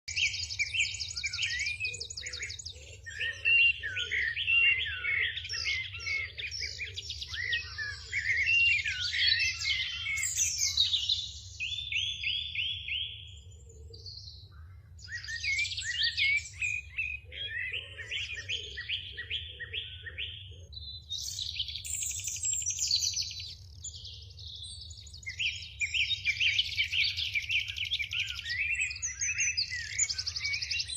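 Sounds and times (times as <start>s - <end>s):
small birds chirping: 0.0s - 30.9s
lower pulsing bird call: 0.1s - 30.9s.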